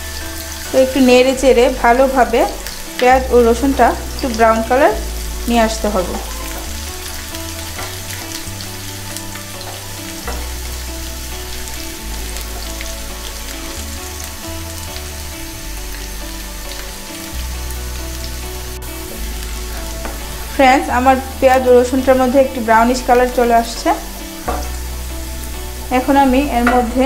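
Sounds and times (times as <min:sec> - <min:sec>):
wooden spoon stirring in pan: 0:00.0 - 0:15.2, 0:16.4 - 0:27.0
onion sizzling in hot oil: 0:00.0 - 0:27.0.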